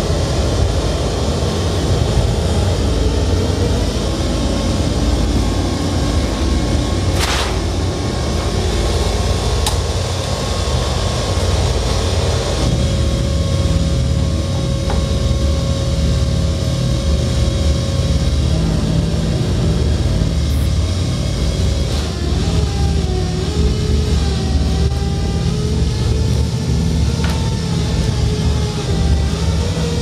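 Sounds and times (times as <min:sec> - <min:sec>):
low rumbling drone: 0:00.0 - 0:30.0.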